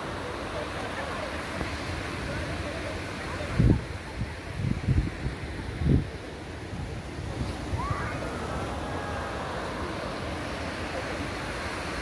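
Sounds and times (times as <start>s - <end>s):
sea surf: 0.0s - 12.0s
wind: 0.0s - 12.0s.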